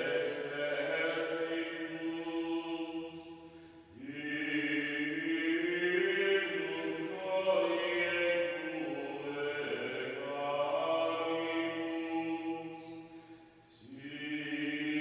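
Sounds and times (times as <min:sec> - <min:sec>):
chant sung in resonant church: 0:00.0 - 0:15.0.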